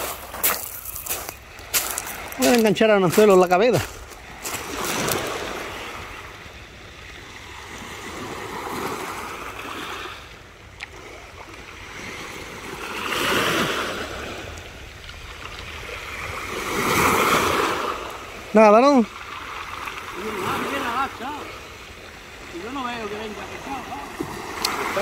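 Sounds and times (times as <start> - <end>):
ocean surf breaking on shore: 1.4 - 25.0.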